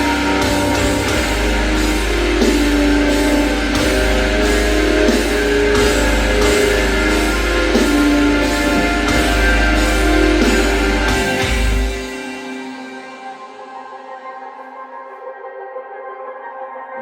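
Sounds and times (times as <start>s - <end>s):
heavy metal song through speaker: 0.0s - 17.0s.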